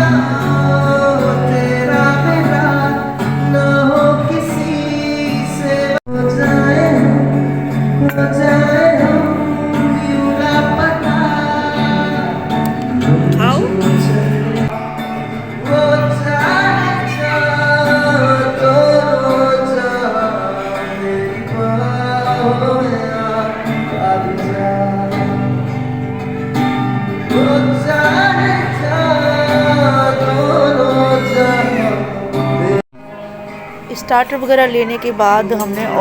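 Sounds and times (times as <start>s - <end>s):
person singing: 0.0s - 32.8s
guitar accompaniment: 0.0s - 36.0s.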